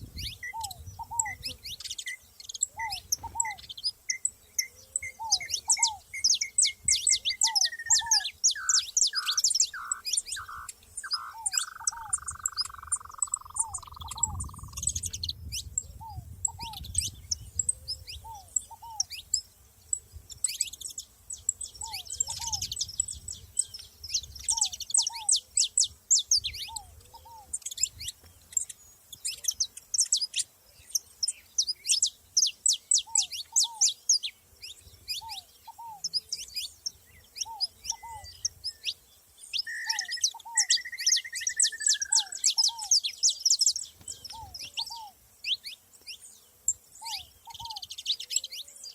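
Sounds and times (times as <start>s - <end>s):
finches chirping rapidly: 0.0s - 48.6s.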